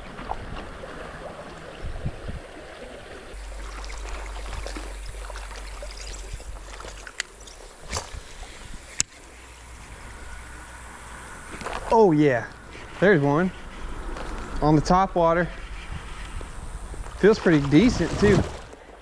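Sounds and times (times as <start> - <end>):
creek water gurgling: 0.0 - 19.0.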